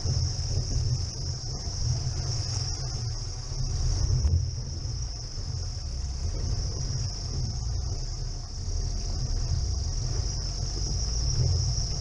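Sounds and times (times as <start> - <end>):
car engine rumble: 0.0 - 12.0
high hiss: 0.0 - 12.0.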